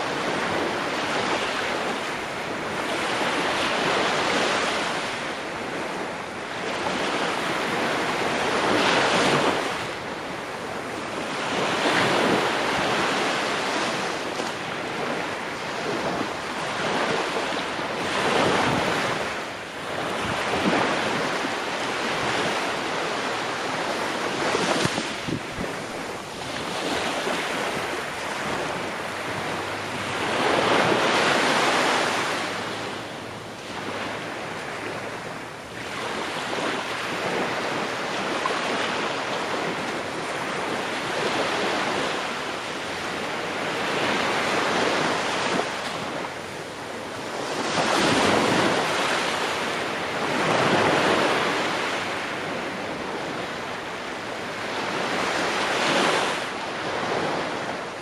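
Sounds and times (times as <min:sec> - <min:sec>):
ocean waves breaking on shore: 0:00.0 - 0:58.0
wind: 0:00.0 - 0:58.0.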